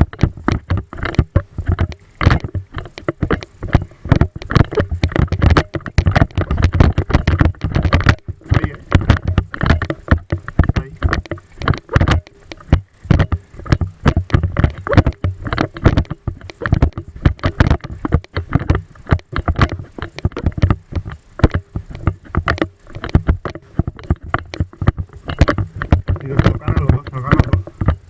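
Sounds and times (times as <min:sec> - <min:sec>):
camera handling knocks and rustling: 0:00.0 - 0:28.0.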